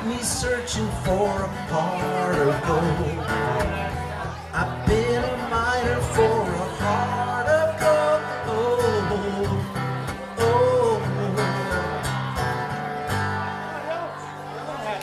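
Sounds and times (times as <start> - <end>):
acoustic guitar strumming: 0.0 - 14.8.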